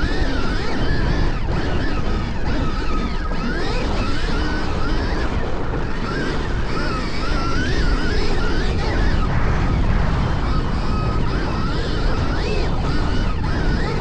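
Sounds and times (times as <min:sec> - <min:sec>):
electric motorcycle motor whining: 0:00.0 - 0:14.0
wind rush on microphone: 0:00.0 - 0:14.0.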